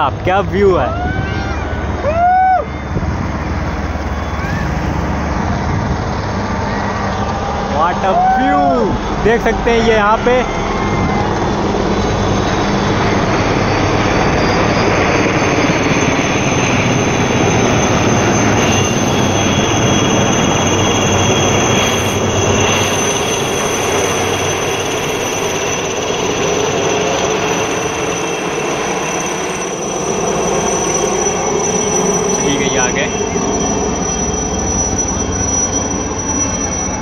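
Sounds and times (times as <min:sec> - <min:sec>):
high turbine whine: 0:00.0 - 0:37.0
jet engines roaring: 0:00.0 - 0:37.0.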